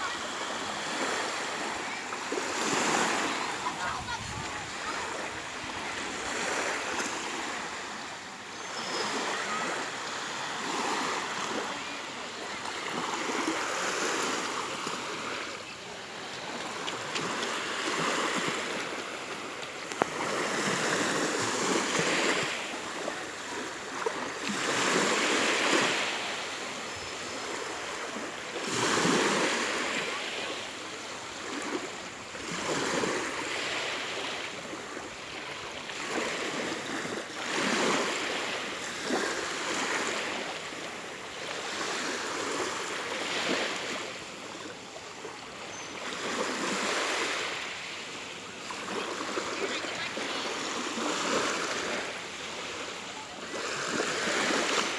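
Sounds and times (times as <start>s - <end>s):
small waves washing onto shore: 0.0s - 54.9s.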